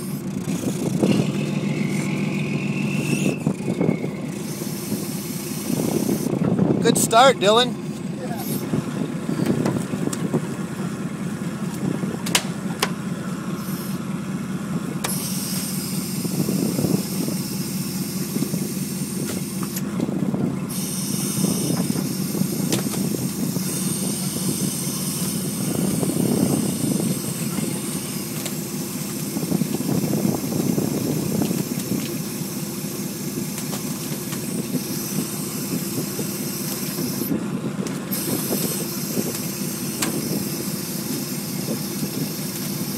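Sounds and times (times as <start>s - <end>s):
boat engine and net reel droning: 0.0s - 42.9s.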